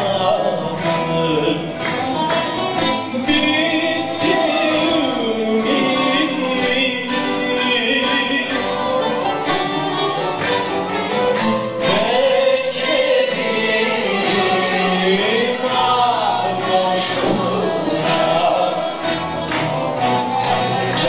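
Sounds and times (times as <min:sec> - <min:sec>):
person singing: 0:00.0 - 0:10.1, 0:11.7 - 0:19.4
guitars and lutes playing: 0:00.0 - 0:21.0.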